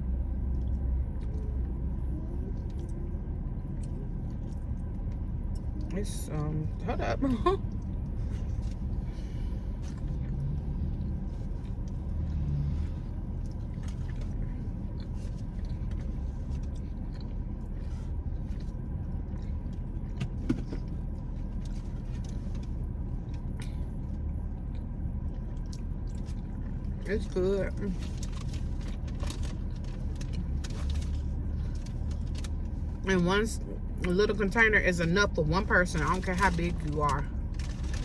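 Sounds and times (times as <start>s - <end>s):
car cabin rumble: 0.0s - 38.0s.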